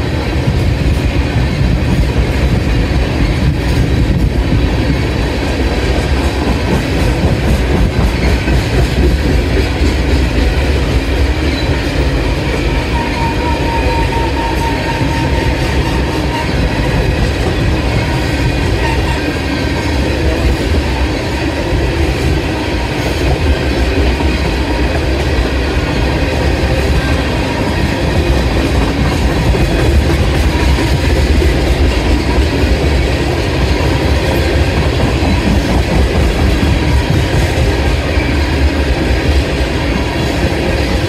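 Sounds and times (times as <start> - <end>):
train wheels clattering over rails: 0.0 - 41.0.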